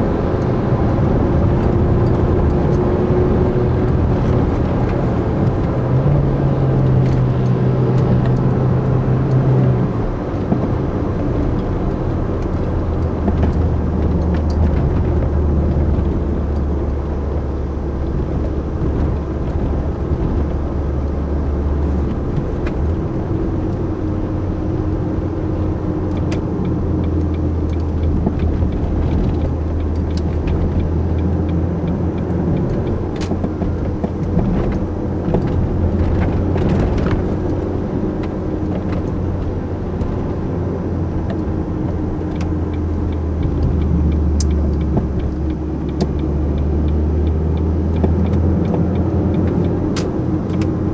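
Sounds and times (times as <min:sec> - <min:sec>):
car engine drone from inside: 0:00.0 - 0:50.9.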